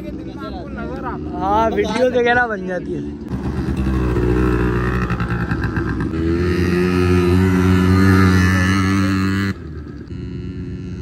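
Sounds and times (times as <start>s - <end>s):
quad bike engine running: 0.1s - 11.0s.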